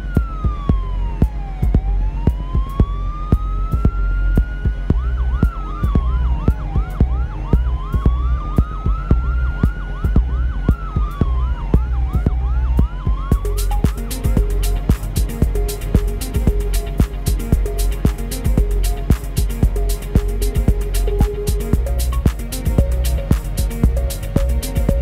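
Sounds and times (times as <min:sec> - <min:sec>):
hi-hats: 0:00.0 - 0:25.0
siren wail in house music: 0:00.0 - 0:25.0
steady kick drum: 0:00.0 - 0:25.0
bass note: 0:02.8 - 0:25.0.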